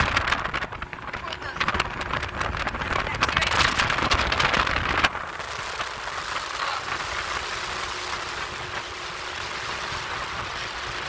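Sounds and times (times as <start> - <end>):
motorboat engine running: 0.0 - 11.0
rush of wind and water: 0.0 - 11.0.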